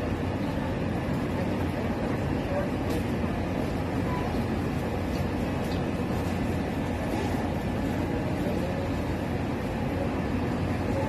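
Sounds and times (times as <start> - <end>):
busy street rumble: 0.0 - 11.0.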